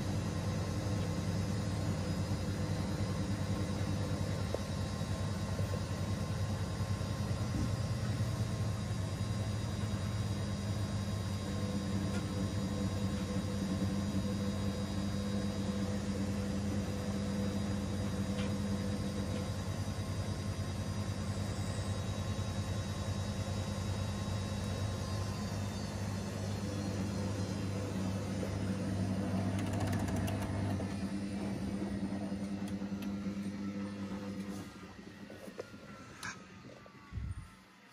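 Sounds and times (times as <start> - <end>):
washing machine motor hum: 0.0 - 37.9.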